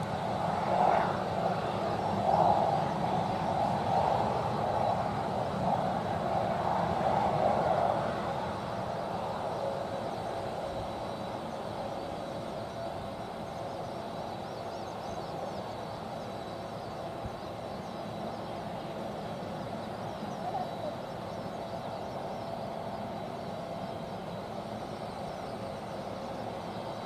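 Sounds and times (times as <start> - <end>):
jet engines idling: 0.0 - 27.0.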